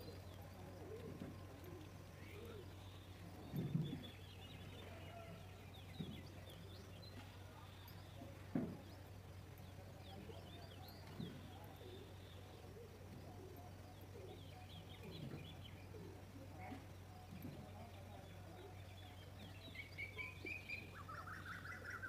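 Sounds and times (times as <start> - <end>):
birds chirping faintly: 0.0 - 22.0
low steady hum: 0.0 - 22.0.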